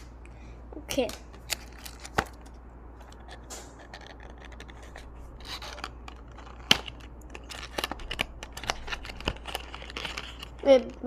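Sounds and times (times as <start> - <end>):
packaging small clicks: 1.4 - 10.6
packaging scraping and rubbing: 1.4 - 11.0.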